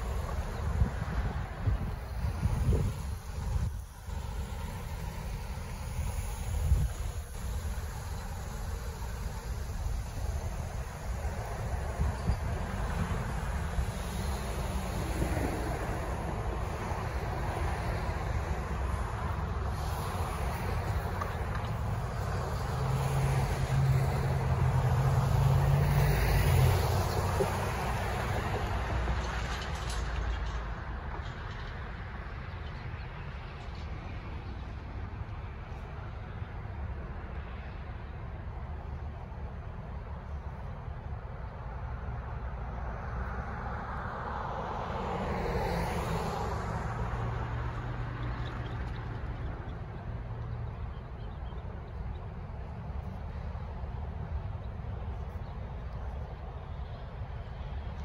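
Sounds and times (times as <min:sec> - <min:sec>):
vehicle passing by: 0:00.0 - 0:37.9, 0:41.7 - 0:51.1
cars and trucks driving by: 0:00.0 - 0:58.0
engine hum: 0:00.0 - 0:58.0
low traffic rumble: 0:00.0 - 0:58.0.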